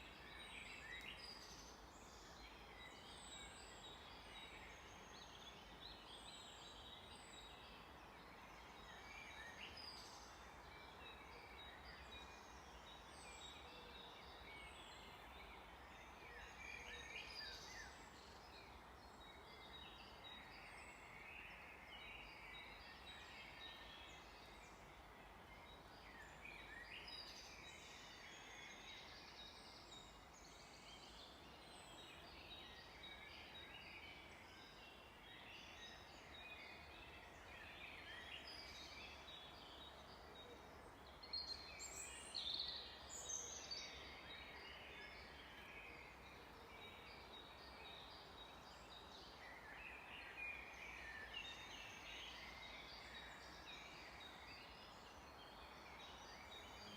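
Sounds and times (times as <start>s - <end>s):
songbirds chirping and trilling: 0.0s - 56.9s
steady background hiss: 0.0s - 56.9s.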